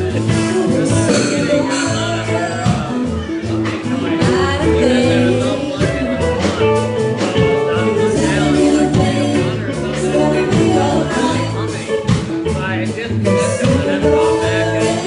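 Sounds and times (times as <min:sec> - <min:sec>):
live band playing: 0:00.0 - 0:15.0
person singing lead vocal: 0:00.0 - 0:15.0.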